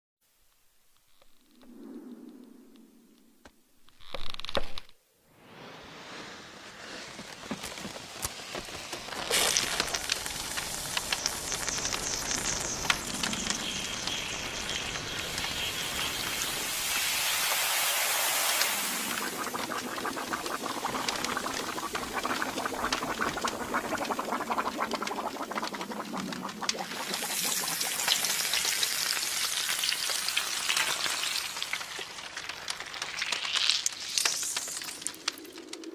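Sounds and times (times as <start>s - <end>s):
match igniting and burning: 5.4s - 35.9s.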